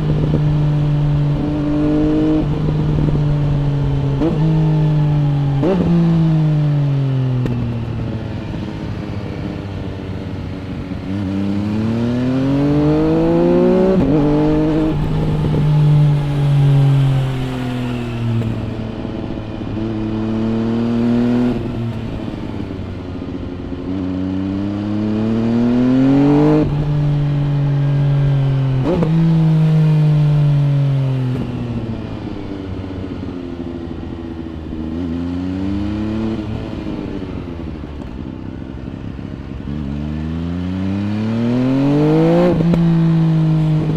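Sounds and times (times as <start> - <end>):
motorcycle engine revving through gears: 0.0 - 43.9.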